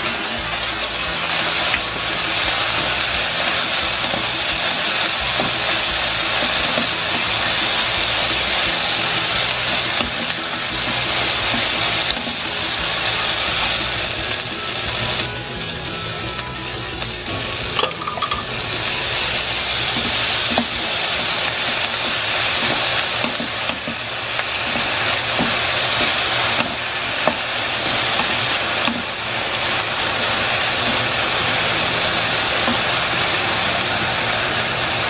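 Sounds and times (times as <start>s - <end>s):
food sizzling in a pan: 0.0s - 35.0s.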